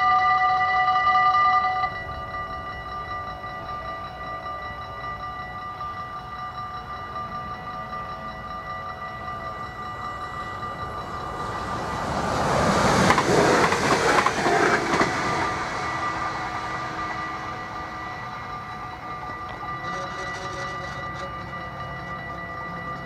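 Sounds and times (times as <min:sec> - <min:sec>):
level-crossing bells ringing: 0:00.0 - 0:23.0
passenger train passing: 0:00.0 - 0:23.0.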